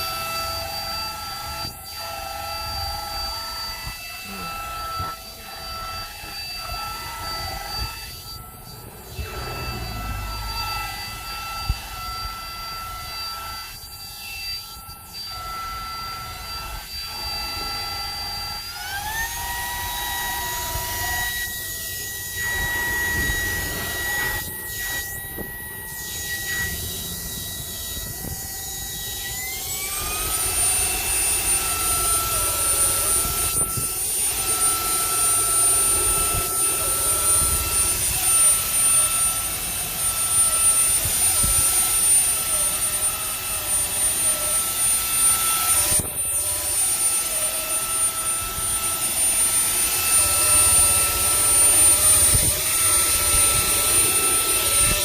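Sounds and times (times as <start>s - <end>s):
vacuum motor whining: 0.0s - 55.0s.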